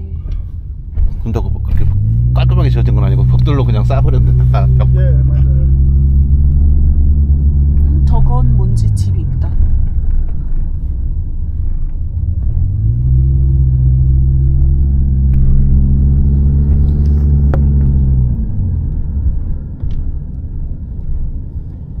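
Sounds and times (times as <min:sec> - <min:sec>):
car engine drone: 0:00.0 - 0:22.0
road noise rumble: 0:00.0 - 0:22.0.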